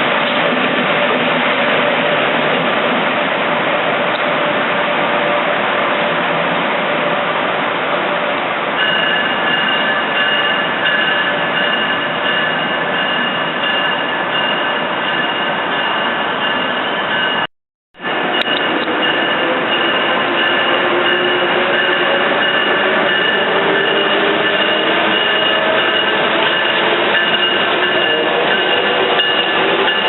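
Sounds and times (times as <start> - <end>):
train wheels rushing on rail: 0.0 - 30.0.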